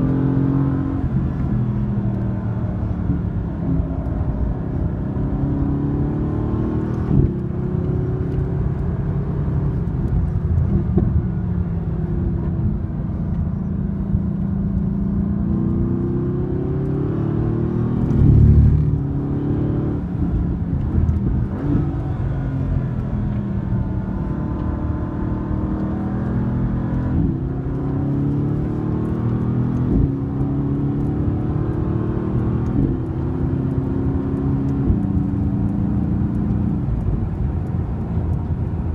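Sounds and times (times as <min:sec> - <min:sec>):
car engine revving from inside cabin: 0:00.0 - 0:38.9.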